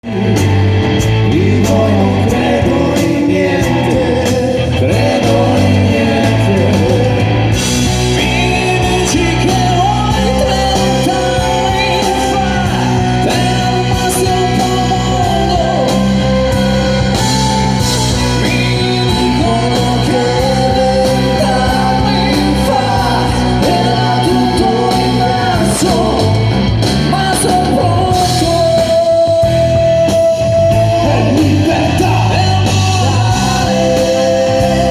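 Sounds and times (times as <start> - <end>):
person singing: 0.0 - 34.9
rock band playing live: 0.0 - 34.9.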